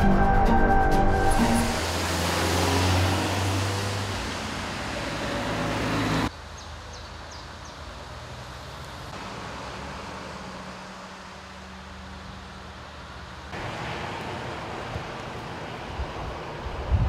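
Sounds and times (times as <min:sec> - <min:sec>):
roadside ambience: 0:00.0 - 0:17.0
cars driving on wet road: 0:01.0 - 0:17.0.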